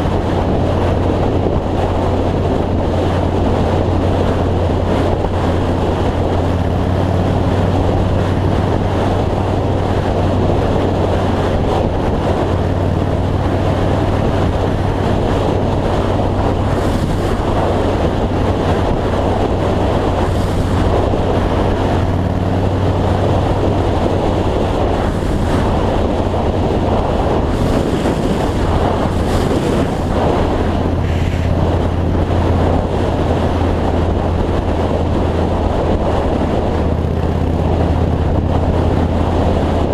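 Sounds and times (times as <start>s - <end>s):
motorcycle engine droning: 0.0s - 39.9s
wind rush on microphone: 0.0s - 39.9s.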